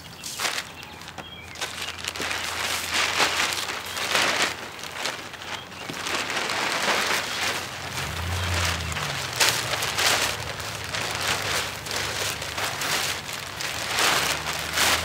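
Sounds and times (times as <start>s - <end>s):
plastic sheeting crinkling: 0.0s - 15.0s.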